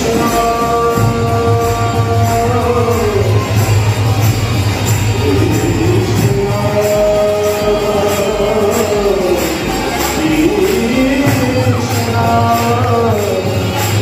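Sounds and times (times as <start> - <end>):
person singing devotional song: 0.0 - 14.0.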